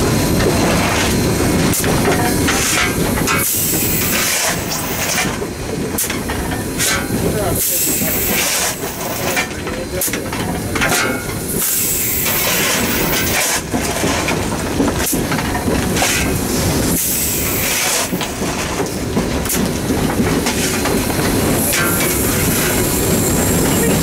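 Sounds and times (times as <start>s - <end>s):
steam hissing: 0.0s - 15.3s, 15.9s - 24.0s
steam locomotive rumble: 0.0s - 24.0s.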